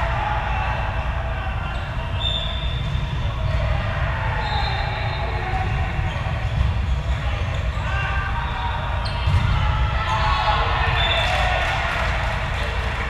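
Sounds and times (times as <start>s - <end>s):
faint court activity: 0.0s - 13.0s
low gym rumble: 0.0s - 13.0s.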